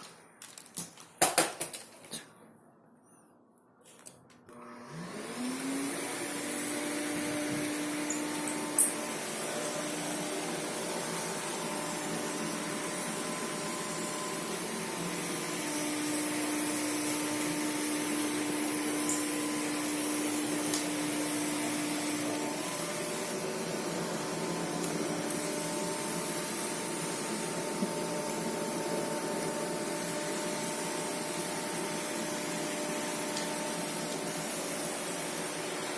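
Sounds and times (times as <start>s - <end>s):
vacuum cleaner running: 4.5s - 35.9s.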